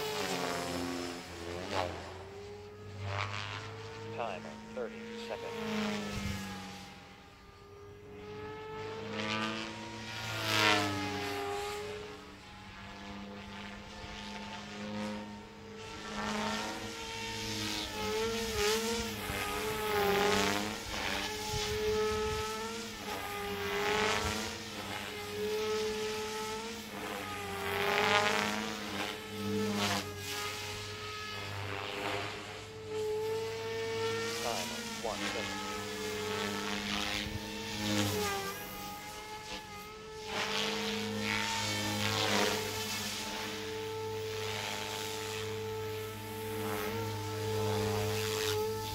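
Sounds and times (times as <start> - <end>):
rc helicopter rotor whine: 0.0 - 48.9.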